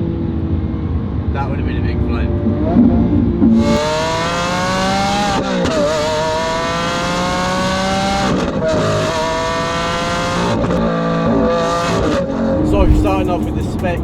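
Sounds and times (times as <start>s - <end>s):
sports car engine accelerating: 0.0s - 14.0s.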